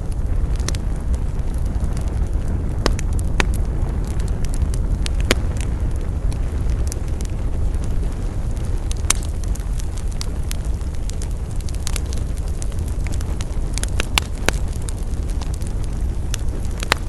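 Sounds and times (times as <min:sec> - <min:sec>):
campfire flame rumble: 0:00.0 - 0:17.0
crackles and pops of burning wood: 0:00.0 - 0:17.0.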